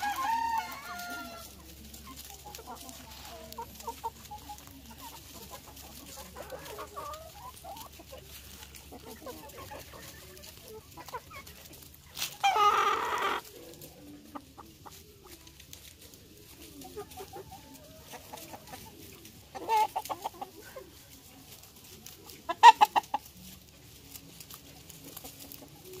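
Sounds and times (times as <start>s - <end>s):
chickens clucking softly: 0.0s - 26.0s.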